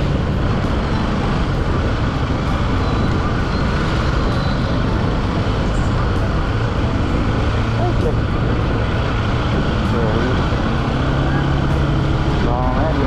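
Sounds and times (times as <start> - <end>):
motorcycle engine hum: 0.0 - 13.0
wind and road noise: 0.0 - 13.0.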